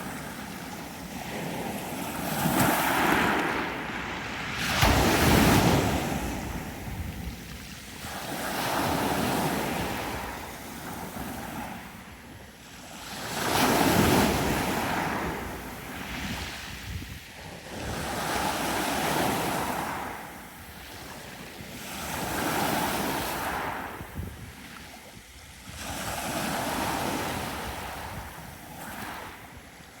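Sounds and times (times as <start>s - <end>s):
sea waves breaking on beach: 0.0s - 30.0s.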